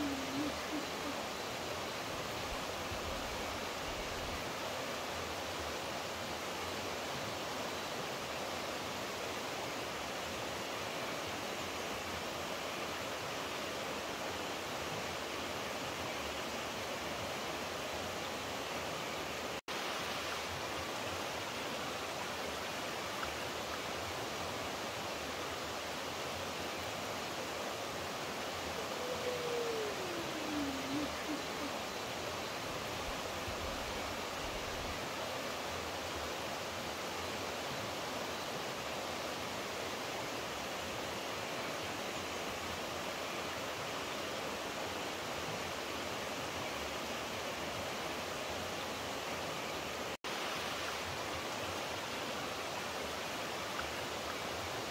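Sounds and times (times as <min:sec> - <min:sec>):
rushing flowing water: 0:00.0 - 0:54.9.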